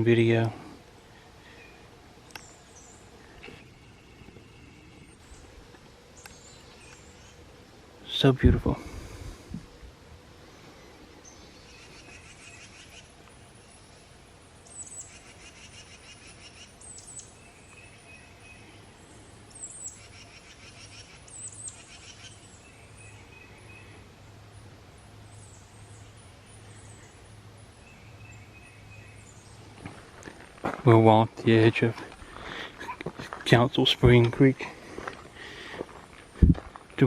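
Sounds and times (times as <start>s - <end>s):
low steady background: 0.0s - 37.0s
songbirds chirping and trilling: 0.0s - 37.0s.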